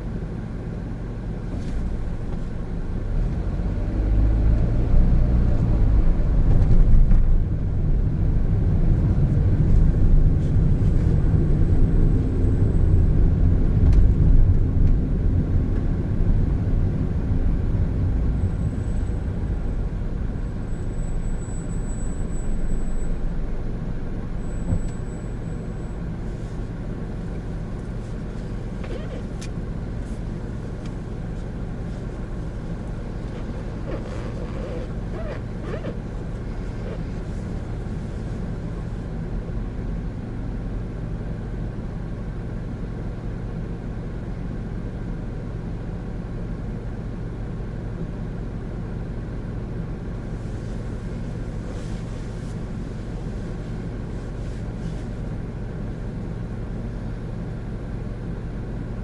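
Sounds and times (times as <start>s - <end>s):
car engine droning: 0.0s - 59.0s
road noise: 0.0s - 59.0s.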